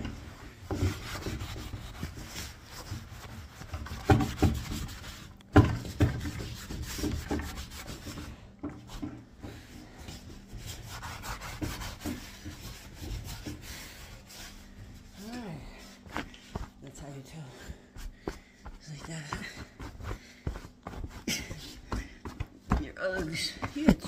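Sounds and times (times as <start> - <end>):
damp cloth wiping wood: 0.0 - 24.0.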